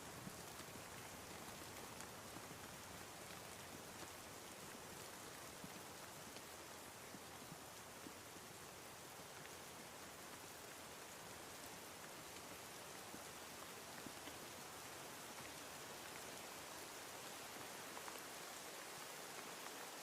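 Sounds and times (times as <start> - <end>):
soft rain patter: 0.0 - 20.0.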